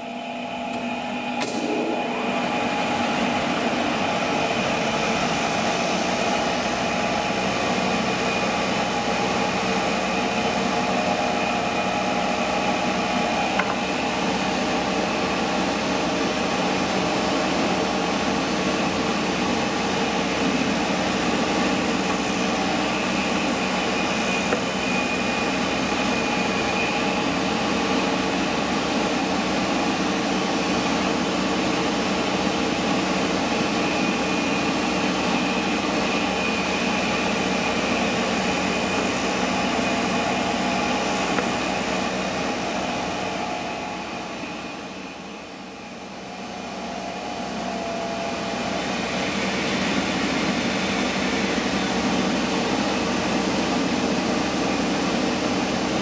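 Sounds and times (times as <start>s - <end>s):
grinding machine hum and whine: 0.0s - 56.0s.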